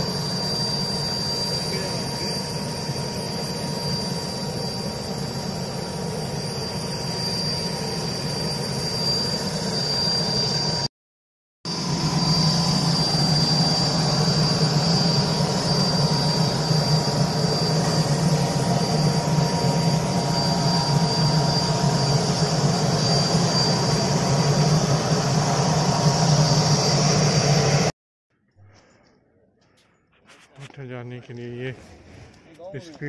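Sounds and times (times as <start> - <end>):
high engine whine: 0.0 - 10.9, 11.7 - 27.9
turboprop engines droning: 0.0 - 10.9, 11.7 - 27.9.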